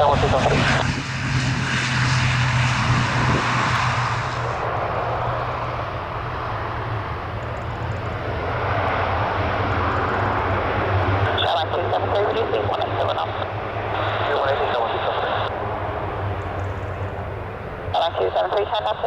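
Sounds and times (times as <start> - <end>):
low hum: 0.0 - 18.4
aircraft engines droning: 0.0 - 19.0.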